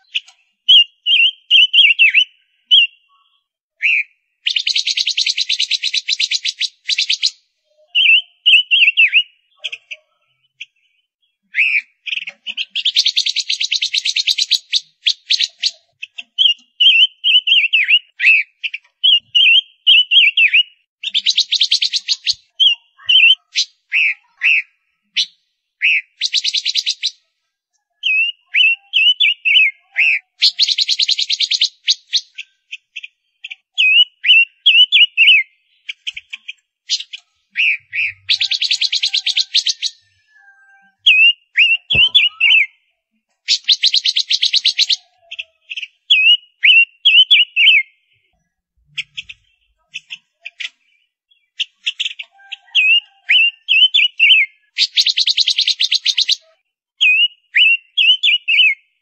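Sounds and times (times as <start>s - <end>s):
bird whistled calls: 0.0s - 3.1s, 3.8s - 9.4s, 11.5s - 27.2s, 28.0s - 32.5s, 33.8s - 36.2s, 36.9s - 42.8s, 43.5s - 47.9s, 51.3s - 58.8s.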